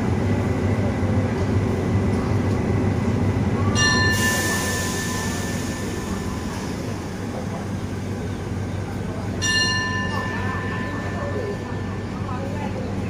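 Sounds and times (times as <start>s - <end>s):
train coaches rumbling past: 0.0s - 13.0s.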